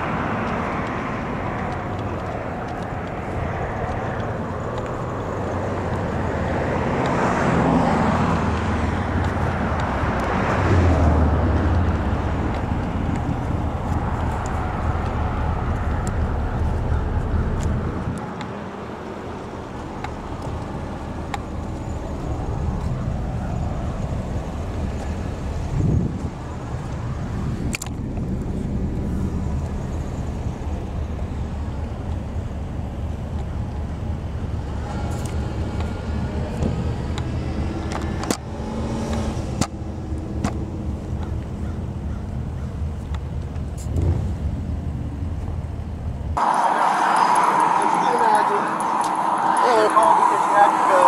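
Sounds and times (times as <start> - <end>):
car engine and road rumble: 0.0 - 51.0.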